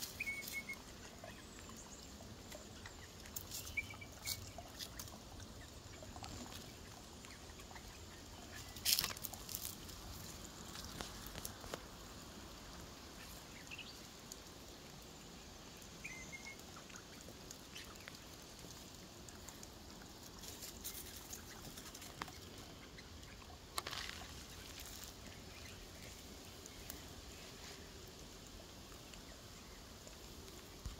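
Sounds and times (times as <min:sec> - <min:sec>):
crackles and rustles: 0:00.0 - 0:15.9, 0:16.6 - 0:30.9
low steady hiss: 0:00.0 - 0:30.9.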